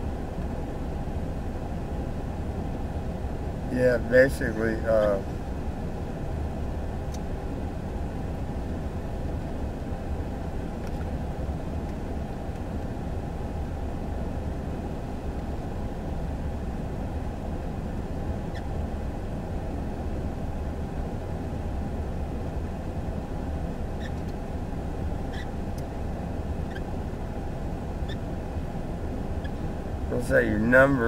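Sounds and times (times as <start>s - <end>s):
low rumble inside car: 0.0s - 31.0s.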